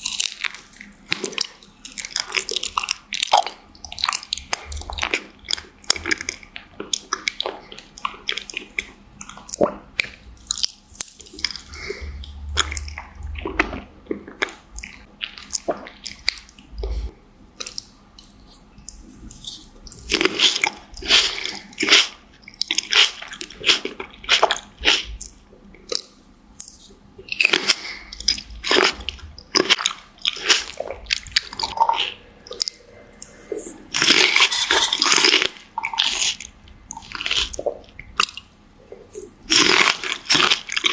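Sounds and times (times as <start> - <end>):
crisp fruit bites crunching: 0.0 - 16.7, 17.6 - 40.9
wet squishy chewing: 0.0 - 40.9.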